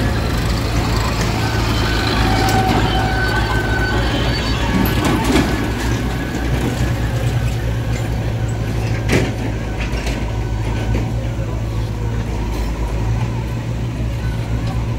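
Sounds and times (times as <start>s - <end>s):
diesel tractor engines droning: 0.0s - 14.9s.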